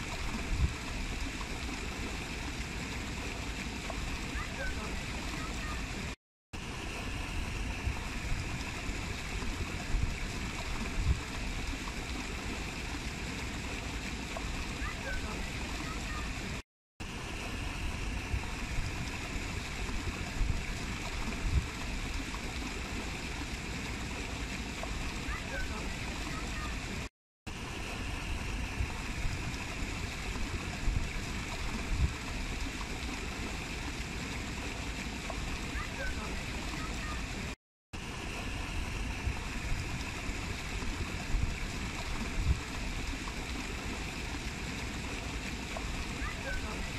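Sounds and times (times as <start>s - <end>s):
water rushing and splashing: 0.0s - 46.9s.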